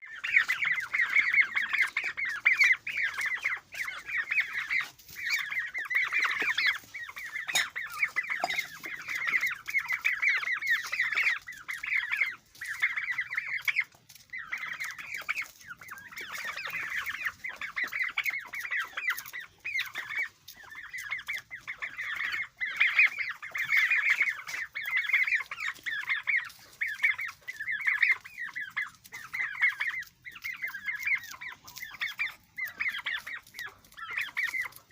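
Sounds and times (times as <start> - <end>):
turkey poults peeping: 0.0 - 34.9.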